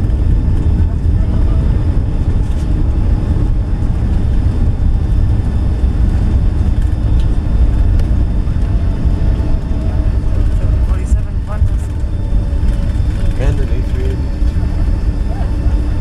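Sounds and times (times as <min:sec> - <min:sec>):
jet cabin rumble: 0:00.0 - 0:16.0.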